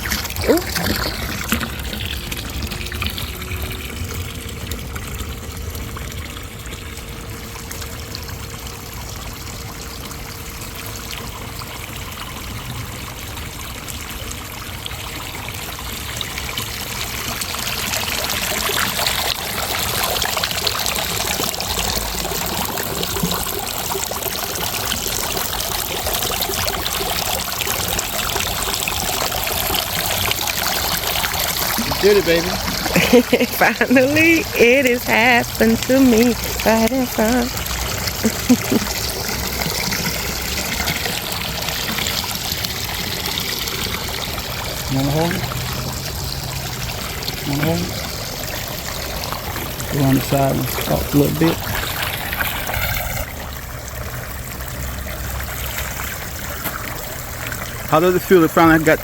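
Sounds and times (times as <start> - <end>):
fountain water trickling: 0.0 - 59.0.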